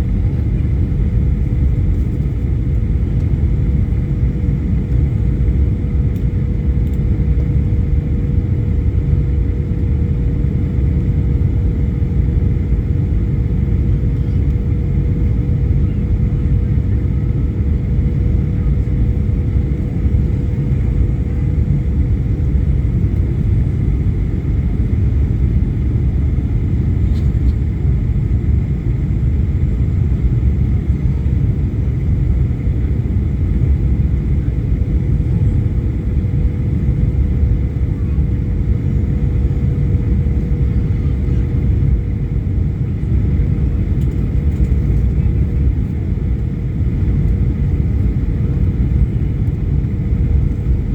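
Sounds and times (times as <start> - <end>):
mid-pitched hum: 0.0 - 50.9.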